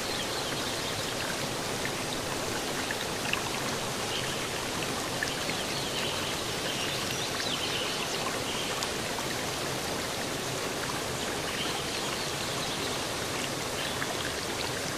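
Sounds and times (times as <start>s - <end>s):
running trickling water: 0.0s - 14.9s.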